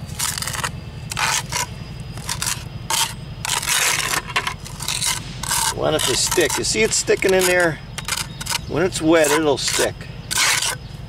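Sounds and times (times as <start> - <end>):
trowel scraping wet cement: 0.0 - 10.9.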